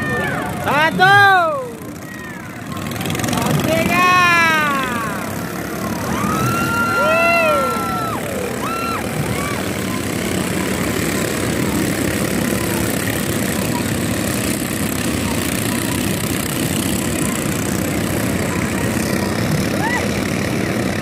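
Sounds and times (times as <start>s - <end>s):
motor canoe engines droning: 0.0s - 21.0s.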